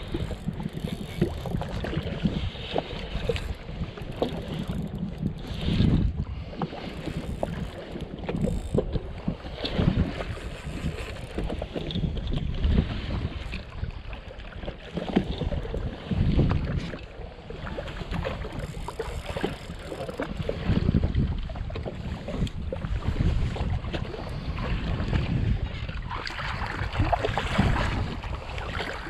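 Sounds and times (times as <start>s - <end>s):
wind buffeting microphone: 0.0s - 14.2s, 15.0s - 29.0s
waves lapping against hull: 0.0s - 29.0s.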